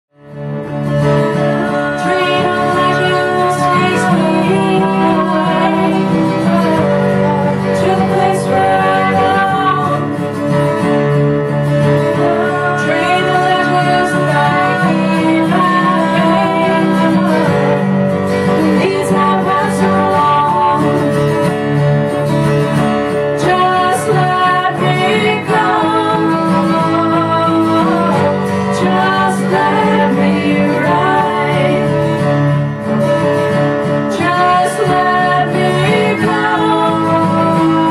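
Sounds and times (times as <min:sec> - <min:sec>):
acoustic guitar: 0:00.1 - 0:37.9
bowed cello: 0:00.3 - 0:37.9
woman singing: 0:01.2 - 0:11.0, 0:11.8 - 0:21.7, 0:23.1 - 0:32.6, 0:33.8 - 0:37.9.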